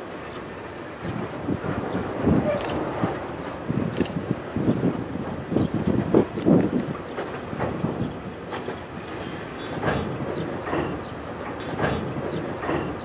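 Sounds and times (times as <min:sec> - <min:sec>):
train rumble: 0:00.0 - 0:13.0
train wheels clacking over rail joints: 0:00.1 - 0:13.0.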